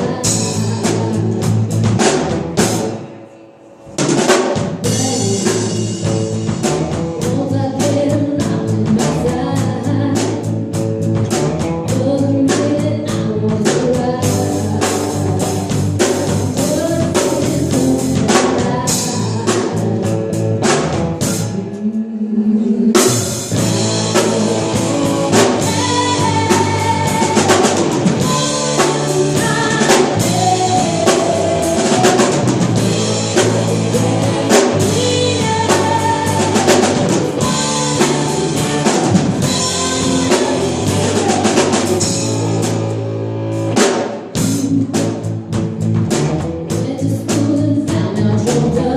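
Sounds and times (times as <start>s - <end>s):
drum kit beat: 0.0s - 3.1s, 3.9s - 21.7s, 23.0s - 48.9s
live band music: 0.0s - 21.9s, 22.9s - 48.9s.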